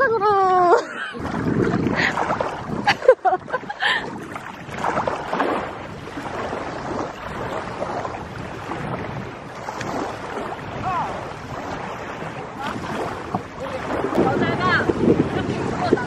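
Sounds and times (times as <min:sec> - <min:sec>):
small waves lapping shore: 0:00.0 - 0:16.0
wind buffeting microphone: 0:00.0 - 0:16.0.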